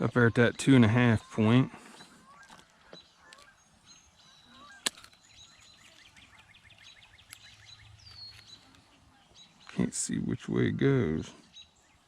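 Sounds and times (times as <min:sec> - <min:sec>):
bird trill: 0:00.0 - 0:09.9
bird calls and chirps: 0:00.0 - 0:12.0.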